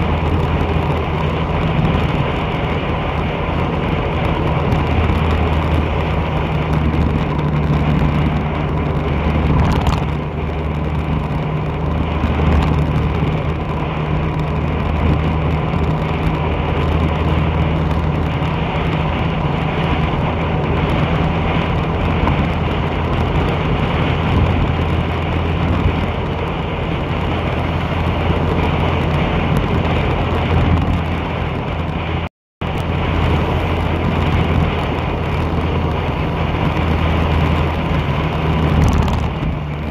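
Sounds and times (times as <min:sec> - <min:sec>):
road and wind noise: 0:00.0 - 0:39.9
vehicle engine humming: 0:00.0 - 0:39.9.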